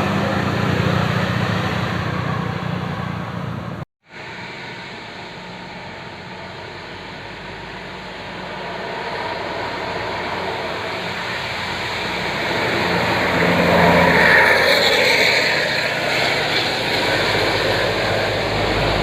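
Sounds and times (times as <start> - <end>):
road traffic noise: 0.0 - 19.0
vehicle engine humming: 0.0 - 19.0.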